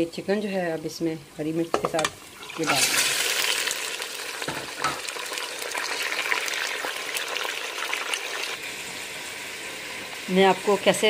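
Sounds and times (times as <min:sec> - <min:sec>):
chicken frying in hot oil: 0:02.0 - 0:11.0.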